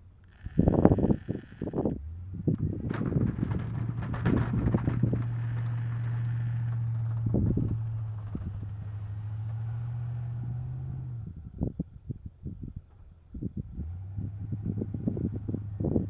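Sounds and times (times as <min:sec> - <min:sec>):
vehicle engine humming: 0:00.0 - 0:16.0
wind buffeting microphone: 0:00.4 - 0:06.2, 0:06.9 - 0:09.0, 0:11.0 - 0:16.0.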